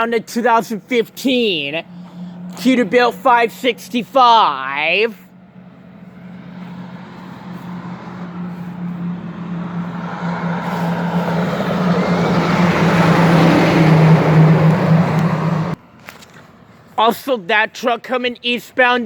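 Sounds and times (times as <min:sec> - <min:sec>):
diesel truck engine drone: 0:00.0 - 0:17.0
rushing tyre noise: 0:00.0 - 0:17.0.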